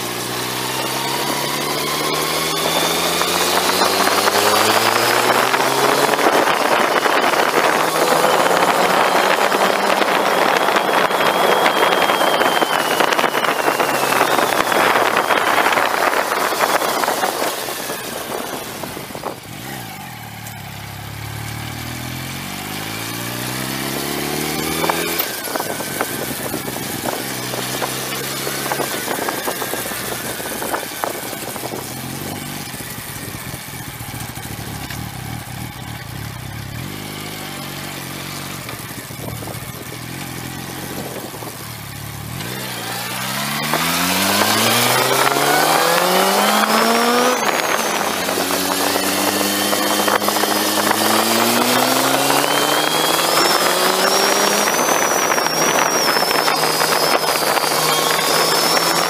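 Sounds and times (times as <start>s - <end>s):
motorcycle engine revving: 0.0s - 59.0s
wind buffeting microphone: 2.4s - 19.9s, 22.9s - 35.4s, 38.6s - 59.0s.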